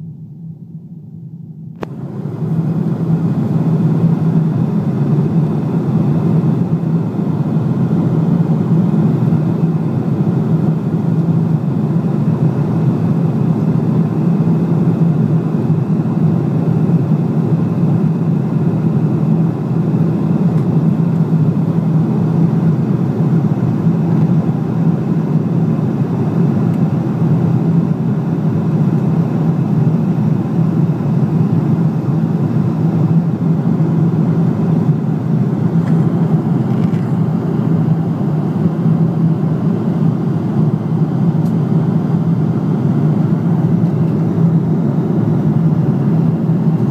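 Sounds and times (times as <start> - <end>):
aircraft cabin engine drone: 0.0 - 46.9.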